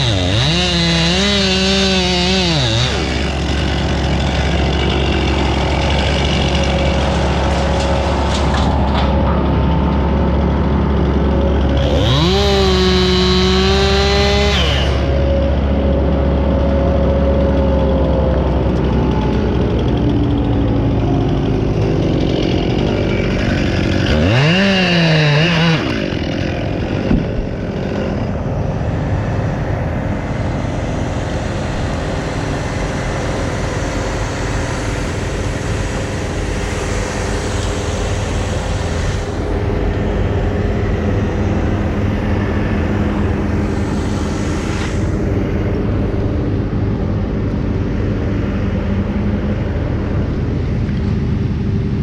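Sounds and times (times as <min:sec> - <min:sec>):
motor revving: 0:00.0 - 0:09.2, 0:10.9 - 0:15.9, 0:18.6 - 0:46.8
engine running steadily: 0:00.0 - 0:52.0.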